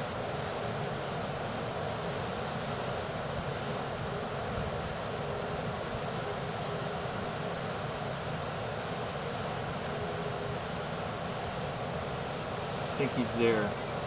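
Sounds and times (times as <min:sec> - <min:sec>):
wind rushing on microphone: 0:00.0 - 0:14.0.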